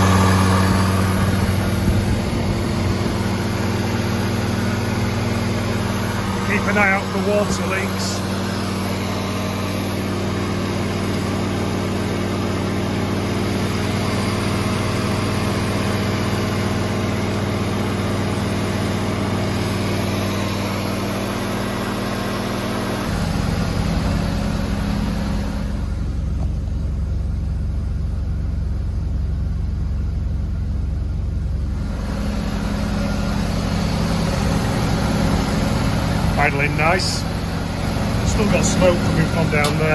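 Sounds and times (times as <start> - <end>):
rotary engine idling: 0.0 - 39.9.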